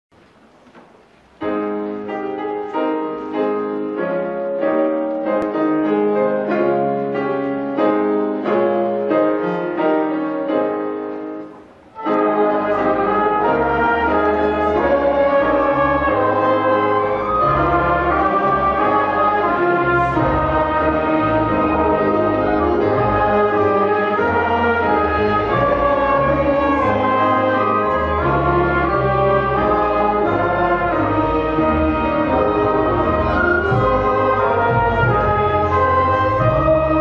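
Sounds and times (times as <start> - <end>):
orchestra playing a hymn: 0.8 - 37.0
tuba: 1.4 - 37.0.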